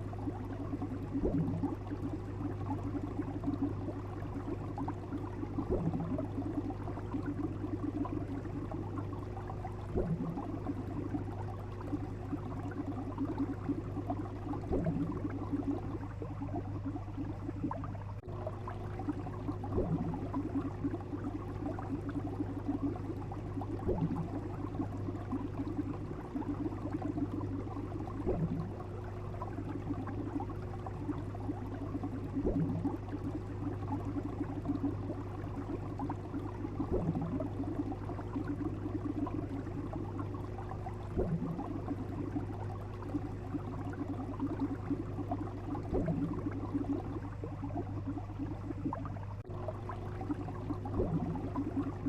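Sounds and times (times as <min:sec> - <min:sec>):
steady low hum: 0:00.0 - 0:52.0
water bubbling and gurgling: 0:00.0 - 0:52.0.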